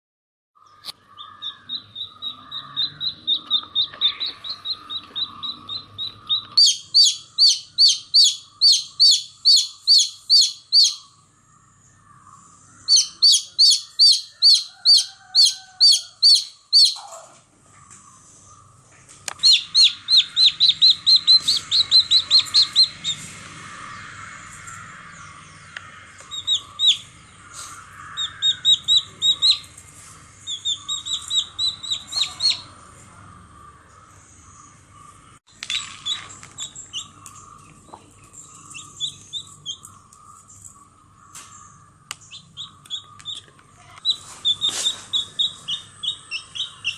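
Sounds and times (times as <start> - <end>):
baby chicks peeping: 0.7 - 11.3, 12.8 - 46.9.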